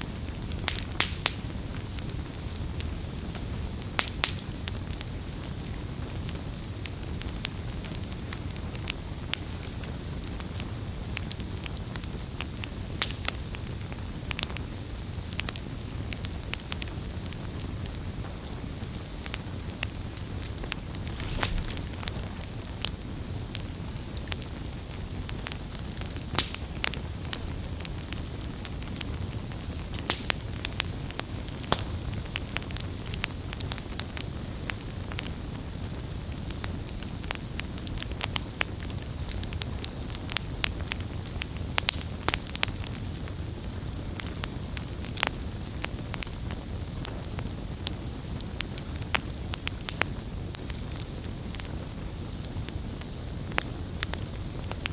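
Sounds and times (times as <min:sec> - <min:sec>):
campfire crackling: 0:00.0 - 0:54.9
fire popping and snapping: 0:00.0 - 0:54.9
low hiss of burning: 0:00.0 - 0:54.9.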